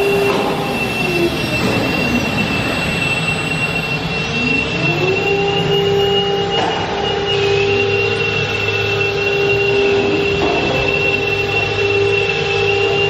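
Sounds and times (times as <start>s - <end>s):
low machine hum: 0.0s - 13.0s
router spindle high whine: 0.0s - 13.0s.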